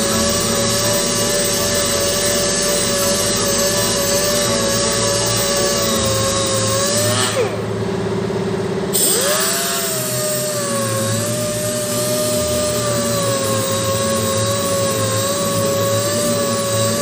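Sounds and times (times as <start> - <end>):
orbital sander whining: 0.0 - 7.8, 8.9 - 17.0.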